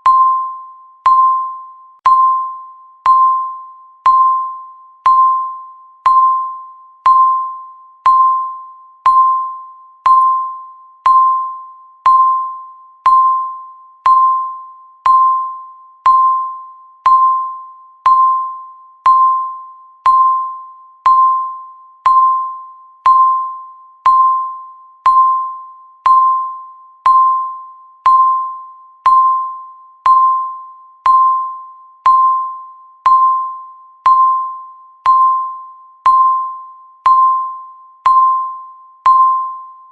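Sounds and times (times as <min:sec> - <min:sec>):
timer ticking: 0:01.0 - 0:39.5.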